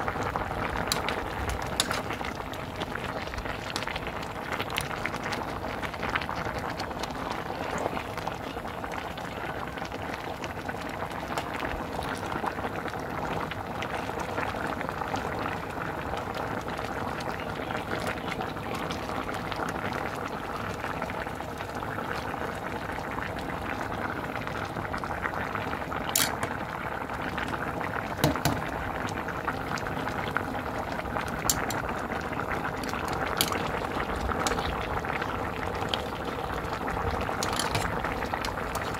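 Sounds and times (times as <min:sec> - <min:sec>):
stew boiling and bubbling: 0:00.0 - 0:38.9.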